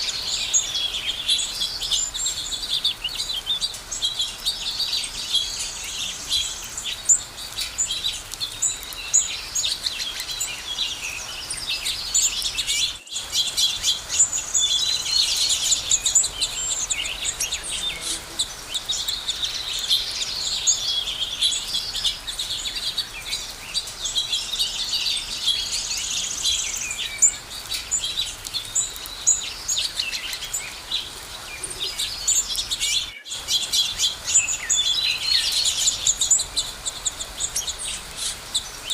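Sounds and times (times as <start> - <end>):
small birds chirping and singing: 0.0 - 38.9.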